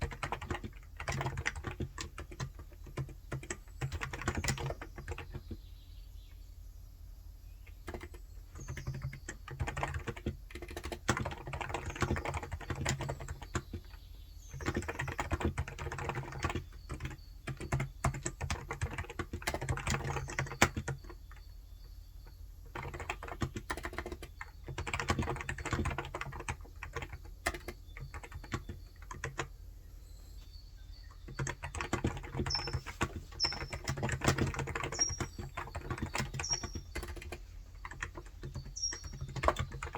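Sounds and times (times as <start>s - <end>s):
keyboard typing: 0.0s - 5.6s, 7.7s - 21.4s, 22.6s - 29.6s, 31.1s - 39.9s.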